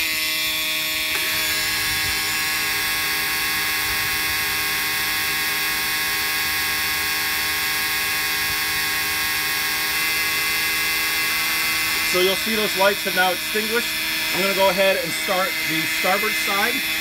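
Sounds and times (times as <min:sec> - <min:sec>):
engine alarm buzzers: 0:00.0 - 0:17.0.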